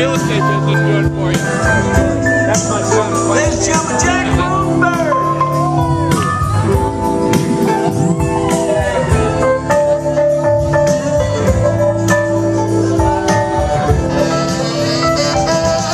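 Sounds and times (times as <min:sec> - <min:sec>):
live blues band playing: 0:00.0 - 0:15.9.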